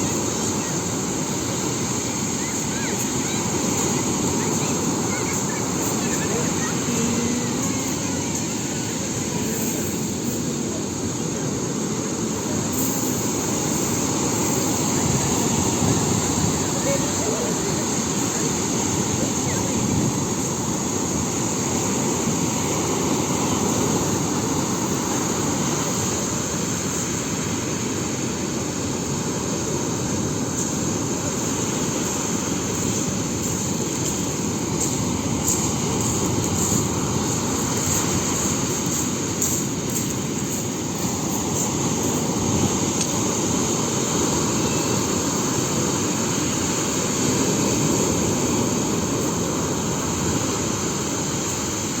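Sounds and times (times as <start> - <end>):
sea waves breaking on shore: 0.0 - 52.0.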